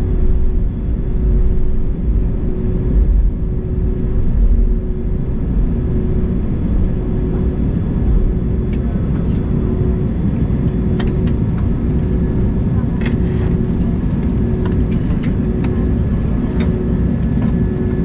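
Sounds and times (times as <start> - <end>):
airliner cabin low rumble: 0.0 - 18.0
constant hum: 0.0 - 18.0.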